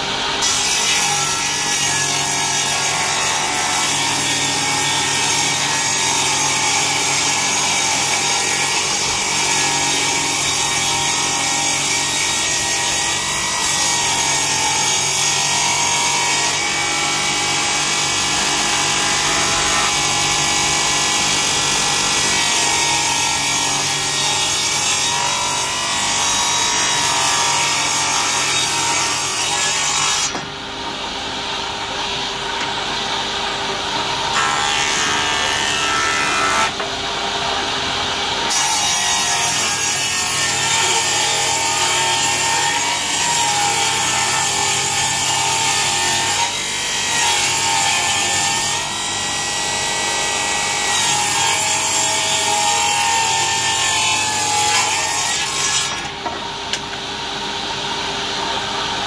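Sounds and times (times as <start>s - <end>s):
table saw ripping wood: 0.0s - 30.5s, 38.4s - 57.0s.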